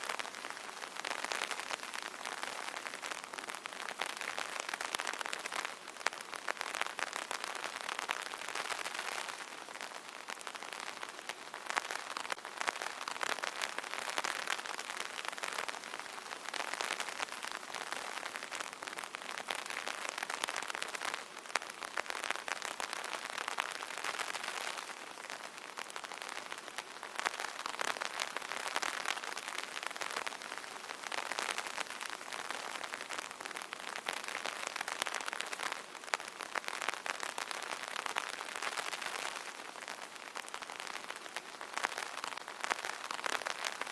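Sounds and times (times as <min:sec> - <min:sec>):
rain pattering on umbrella: 0:00.0 - 0:43.9.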